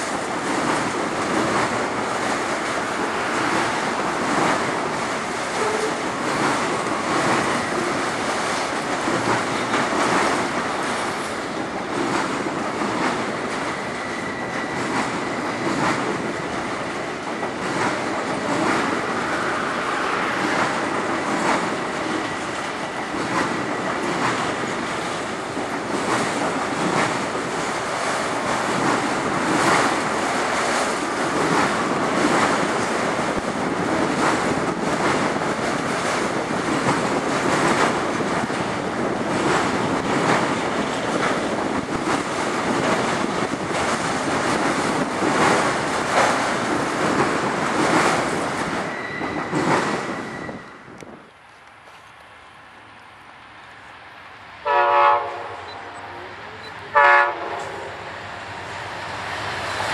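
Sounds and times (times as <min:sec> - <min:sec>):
wind buffeting microphone: 0:00.0 - 0:51.4
faint clicks of train wheels: 0:00.0 - 0:54.7
freight train rolling past: 0:00.0 - 0:59.9.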